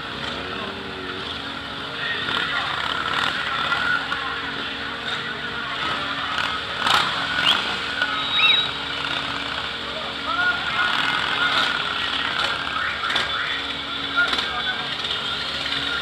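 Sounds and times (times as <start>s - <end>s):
motorcycle engines at low revs: 0.0s - 16.0s
onlookers' voices: 0.0s - 16.0s.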